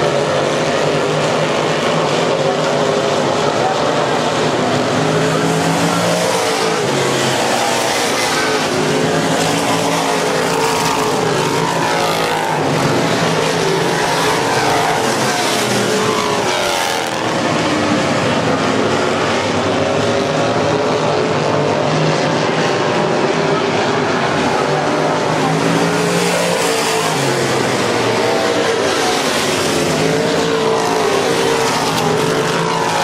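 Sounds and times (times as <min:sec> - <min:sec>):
racing car engines: 0:00.0 - 0:33.0.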